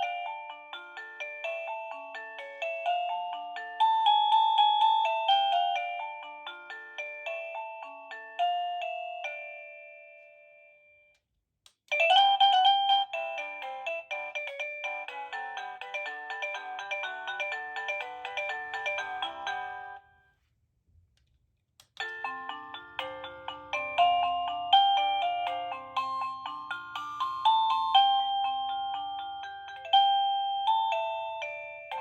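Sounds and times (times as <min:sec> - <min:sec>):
doorbell chime melody: 0:00.0 - 0:11.1, 0:11.9 - 0:20.1, 0:22.0 - 0:32.0.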